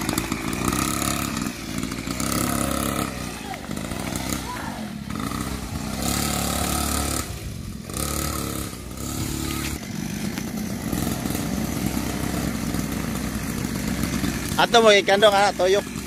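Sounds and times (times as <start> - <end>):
dirt bike engine revving and idling: 0.0 - 16.0.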